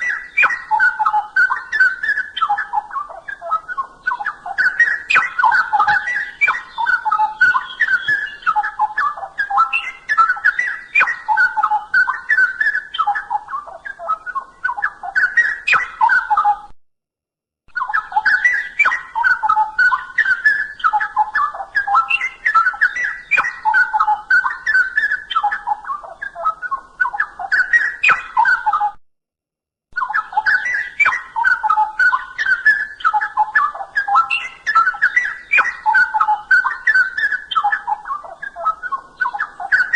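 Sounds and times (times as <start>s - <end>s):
bird warbling song: 0.0s - 16.7s, 17.7s - 29.0s, 30.0s - 39.9s.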